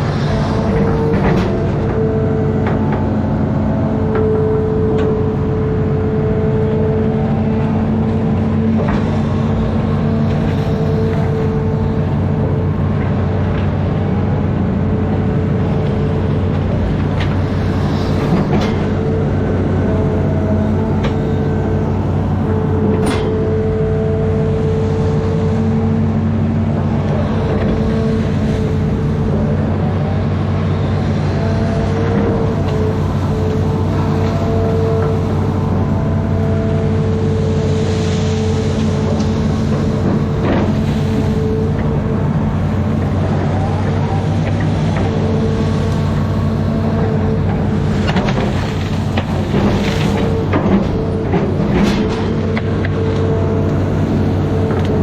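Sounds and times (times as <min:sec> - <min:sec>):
diesel engine droning: 0:00.0 - 0:55.0
engine whine: 0:00.0 - 0:55.0.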